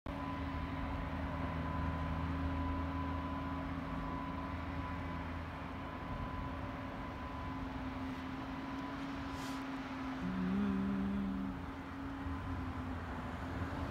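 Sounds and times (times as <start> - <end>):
faint high whine: 0.1 - 13.1
low mechanical hum: 0.1 - 13.9.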